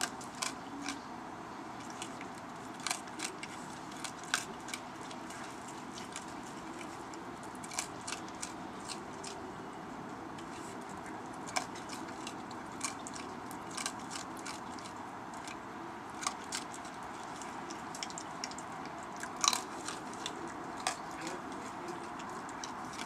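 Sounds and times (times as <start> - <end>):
raccoon crunching dry food: 0.0 - 23.0
steady background hiss: 0.0 - 23.0.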